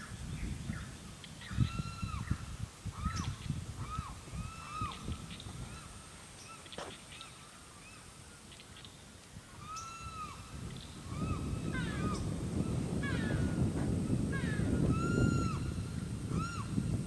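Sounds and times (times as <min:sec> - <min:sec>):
birds calling: 0:00.0 - 0:16.9.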